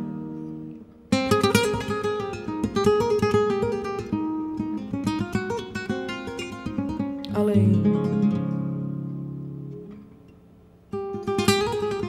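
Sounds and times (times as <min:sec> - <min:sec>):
flamenco acoustic guitar: 0:00.0 - 0:12.0.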